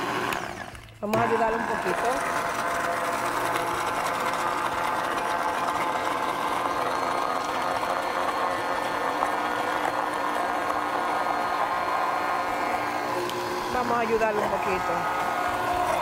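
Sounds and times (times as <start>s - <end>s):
blender motor humming: 0.0s - 16.0s.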